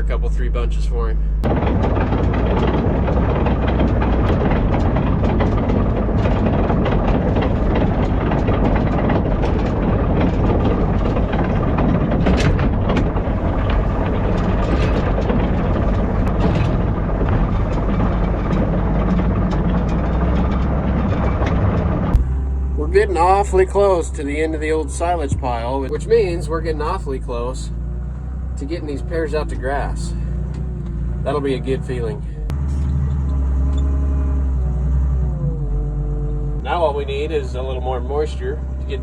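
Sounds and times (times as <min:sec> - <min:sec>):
heavy farm vehicle engine drone: 0:00.0 - 0:39.0
machinery rattling and clanking: 0:00.0 - 0:39.0.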